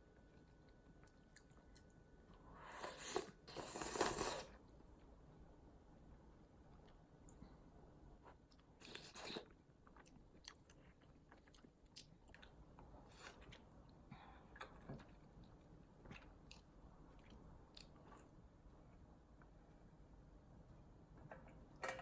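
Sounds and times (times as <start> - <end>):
soft chewing and crunching: 0.0 - 20.2.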